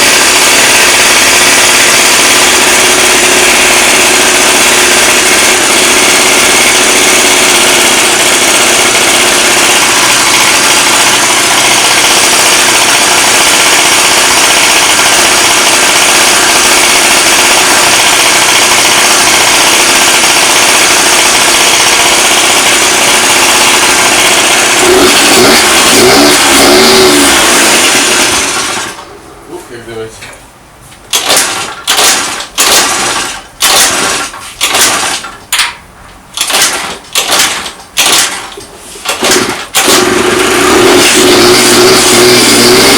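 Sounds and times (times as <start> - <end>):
two-stroke scooter engine running: 0.0 - 29.1, 31.1 - 35.7, 36.4 - 42.9.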